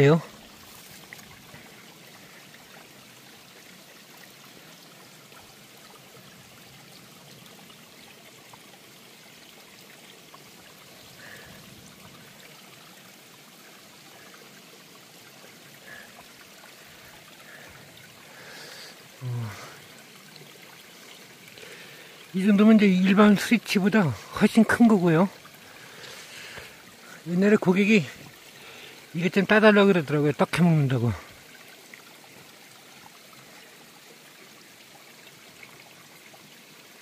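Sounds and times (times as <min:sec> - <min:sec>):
faint running water: 0:00.0 - 0:37.0.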